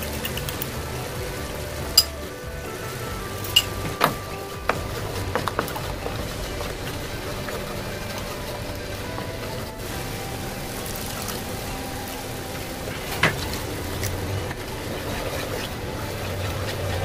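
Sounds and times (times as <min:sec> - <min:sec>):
wooden spatula stirring: 0:02.8 - 0:17.0.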